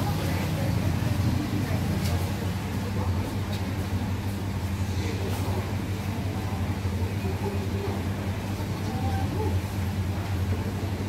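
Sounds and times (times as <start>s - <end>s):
aeration pump humming: 0.0s - 11.0s.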